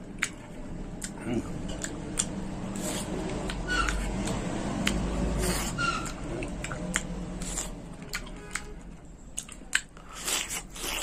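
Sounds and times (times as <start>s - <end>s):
mouth clicks and smacks: 0.0s - 11.0s
person chewing wetly: 0.0s - 11.0s.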